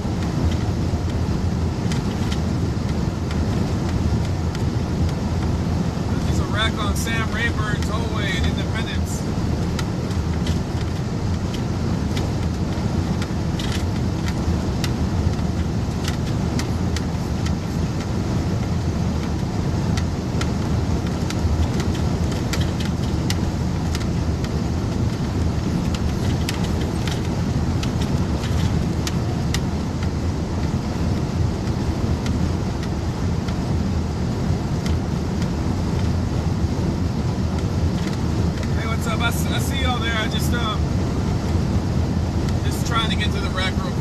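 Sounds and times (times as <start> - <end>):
engine and road rumble: 0.0 - 44.0
light clicks and rattles: 0.1 - 5.6, 6.2 - 33.7, 34.7 - 40.8.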